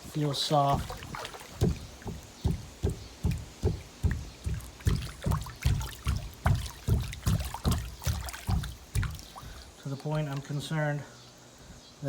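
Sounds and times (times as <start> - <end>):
hollow footsteps on pool floor: 0.0 - 10.7.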